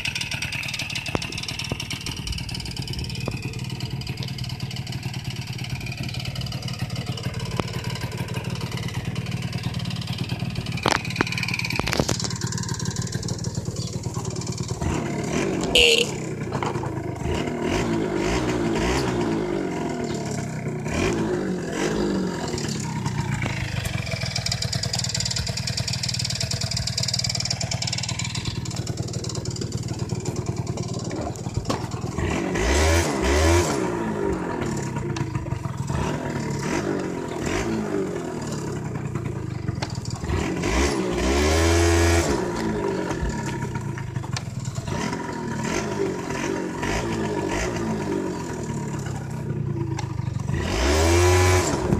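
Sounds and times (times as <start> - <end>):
two-stroke scooter engine running: 0.0 - 51.9.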